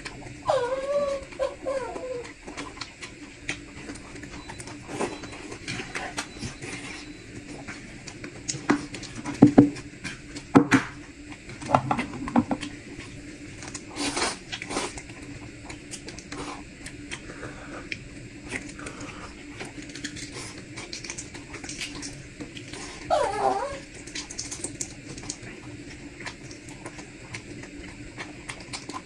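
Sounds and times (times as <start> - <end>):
biting and chewing: 0.0 - 29.0.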